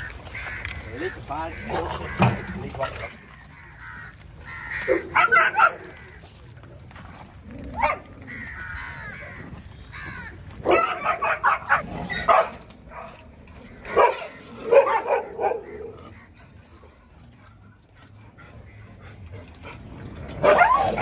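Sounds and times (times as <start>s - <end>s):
dogs barking and yipping: 1.5s - 9.7s, 10.5s - 21.0s.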